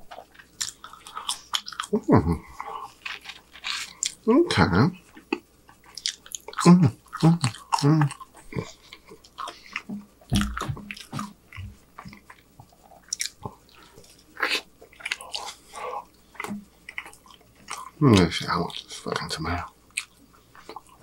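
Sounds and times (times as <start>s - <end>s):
close chewing of fries: 0.0s - 21.0s.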